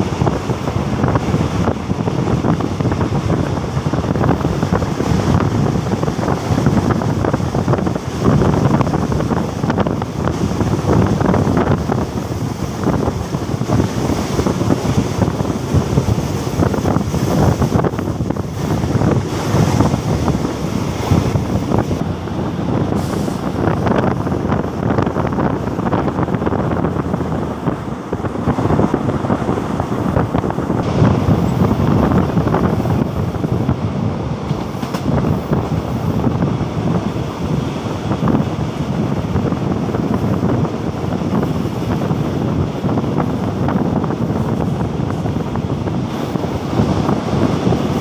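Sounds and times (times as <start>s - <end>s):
train rumbling along rails: 0.0s - 48.0s
wind rushing over microphone: 0.0s - 48.0s.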